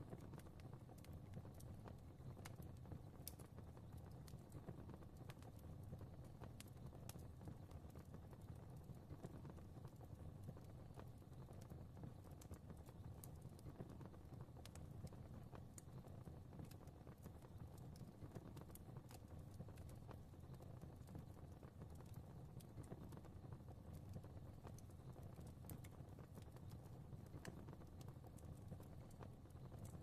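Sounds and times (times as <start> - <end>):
fire crackling: 0.0 - 30.0
low rumble of flames: 0.0 - 30.0.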